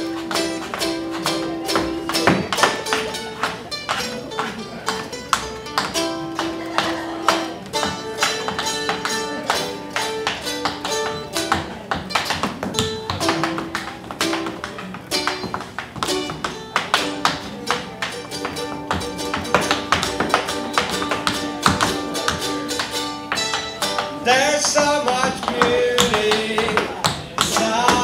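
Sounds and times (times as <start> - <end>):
guitar playing: 0.0 - 28.0
tap shoes on floor: 0.0 - 28.0.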